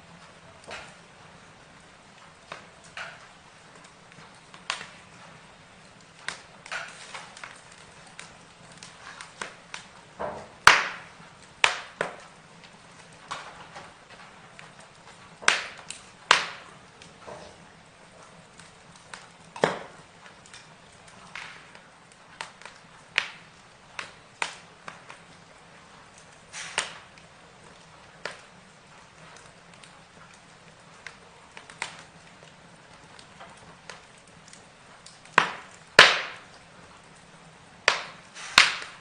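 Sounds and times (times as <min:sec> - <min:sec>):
burning wood crackling: 0:00.0 - 0:39.0
fire pops and snaps: 0:00.0 - 0:39.0.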